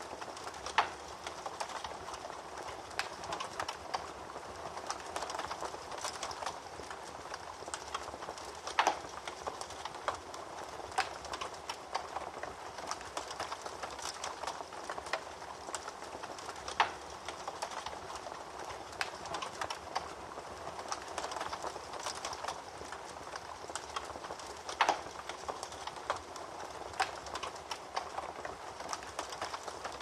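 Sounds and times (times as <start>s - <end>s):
fire popping and snapping: 0.0s - 30.0s
wood fire crackling: 0.0s - 30.0s.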